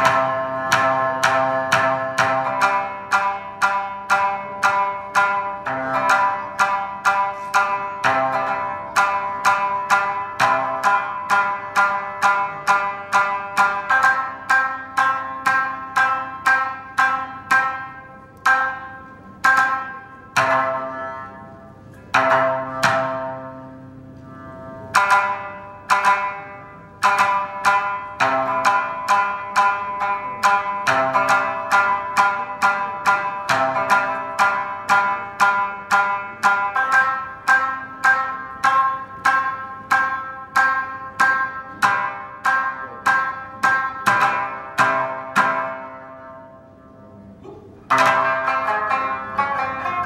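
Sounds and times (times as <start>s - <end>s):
shamisen plucked notes: 0.0s - 50.0s.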